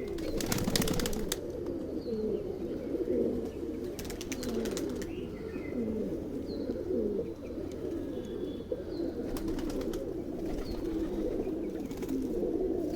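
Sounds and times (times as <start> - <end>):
pigeons cooing: 0.0 - 12.9.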